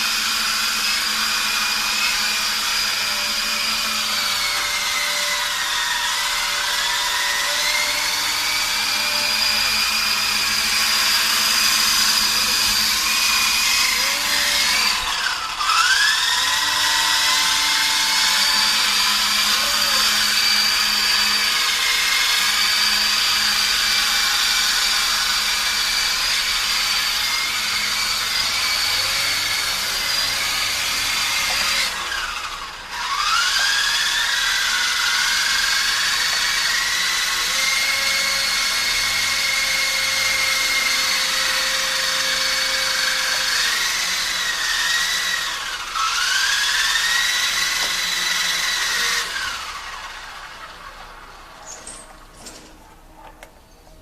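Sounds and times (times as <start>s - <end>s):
rc helicopter rotor whine: 0.0s - 52.4s.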